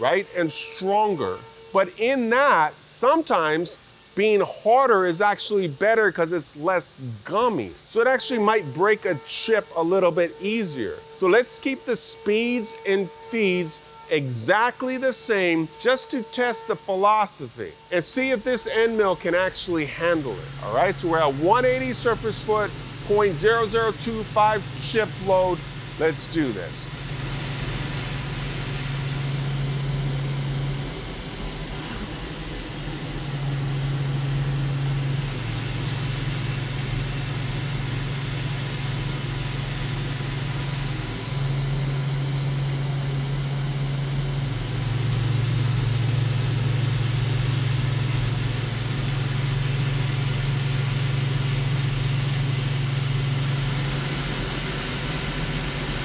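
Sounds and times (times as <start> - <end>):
milling machine cutting hum: 0.0 - 56.0.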